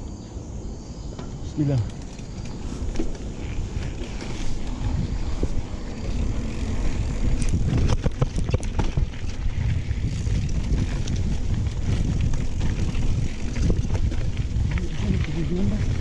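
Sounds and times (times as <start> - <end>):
wind buffeting microphone: 0.0 - 16.0
bike rattling over rough ground: 1.0 - 16.0
tyres rumbling on dirt: 1.4 - 16.0.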